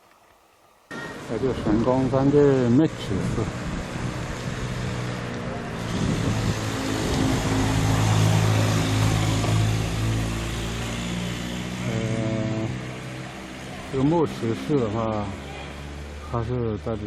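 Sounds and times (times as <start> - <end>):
vehicle engine running: 0.9 - 17.0.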